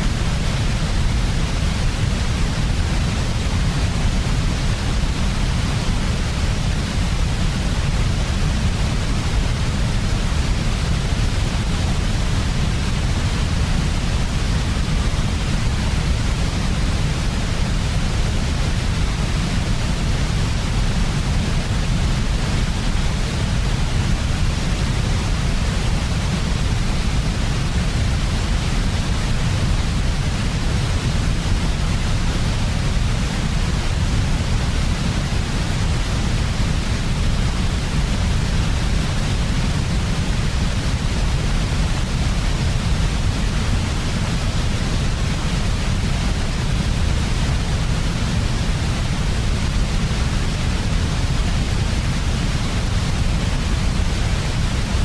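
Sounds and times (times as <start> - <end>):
white noise hiss and rumble: 0.0 - 55.0.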